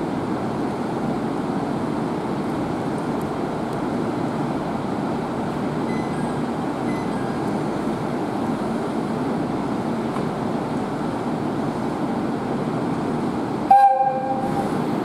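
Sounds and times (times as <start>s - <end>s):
train equipment running noise: 0.0s - 15.0s.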